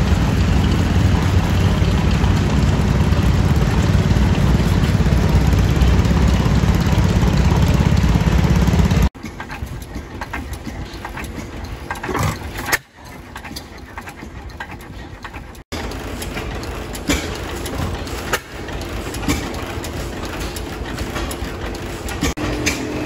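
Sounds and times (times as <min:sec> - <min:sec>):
gas engines clattering: 0:00.0 - 0:23.0.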